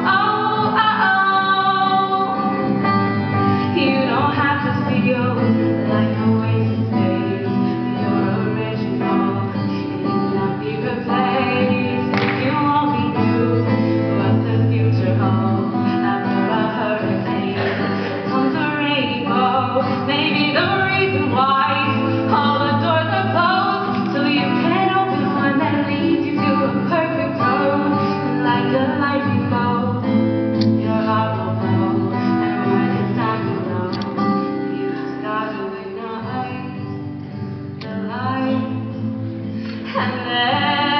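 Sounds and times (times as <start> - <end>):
person singing: 0.0 - 36.8, 37.8 - 40.9
acoustic guitar: 0.0 - 40.9.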